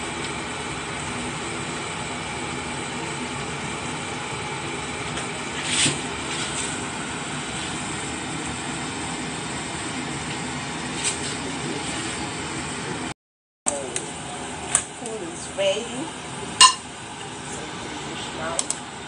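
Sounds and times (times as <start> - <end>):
background hum and hiss: 0.0 - 13.1, 13.7 - 19.0.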